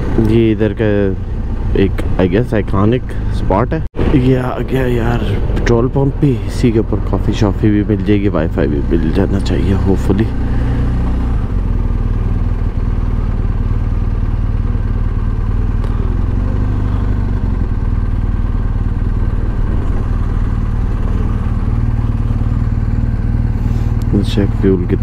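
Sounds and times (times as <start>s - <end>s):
motorcycle engine at low revs: 0.0s - 3.8s, 5.2s - 25.0s.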